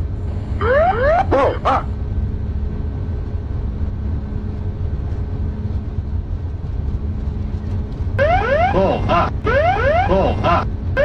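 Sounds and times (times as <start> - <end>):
constant low hum: 0.0 - 11.0
low rumble: 0.0 - 11.0.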